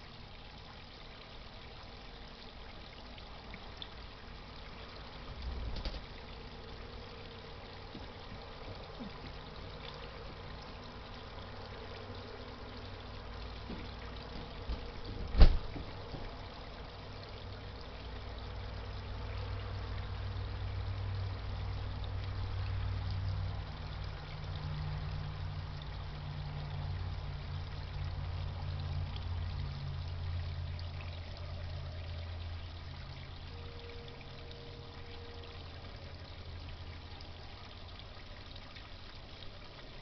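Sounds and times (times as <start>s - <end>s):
water trickling and splashing: 0.0s - 40.0s.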